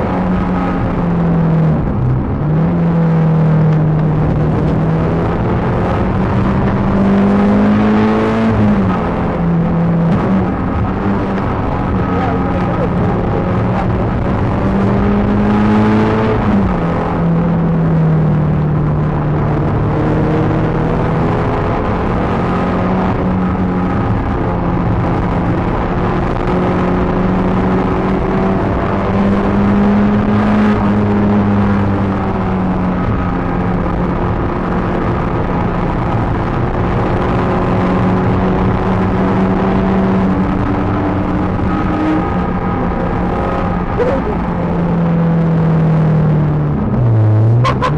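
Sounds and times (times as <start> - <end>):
car engine running hard: 0.0 - 47.9.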